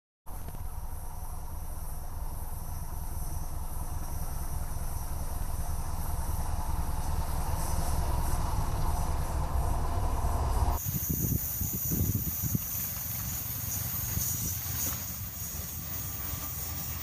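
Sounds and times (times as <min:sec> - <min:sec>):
diesel locomotive engine droning: 0:00.3 - 0:17.0.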